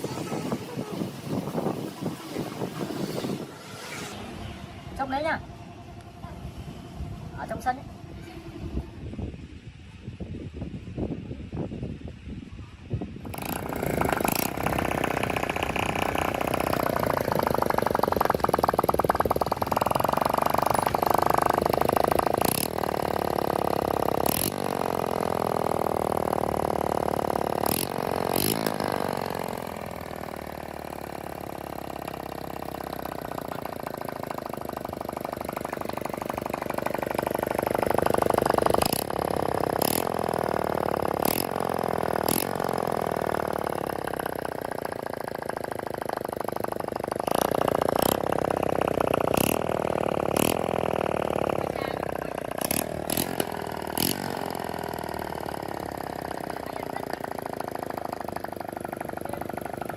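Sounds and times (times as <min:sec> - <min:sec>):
motorcycle engine revving: 0:00.0 - 0:09.2, 0:13.2 - 0:59.9.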